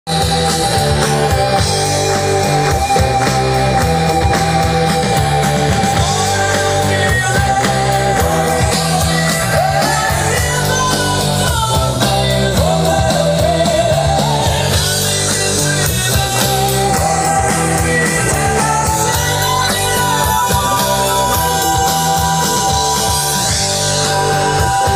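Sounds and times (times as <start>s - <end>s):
rock song with singer: 0.1s - 24.9s.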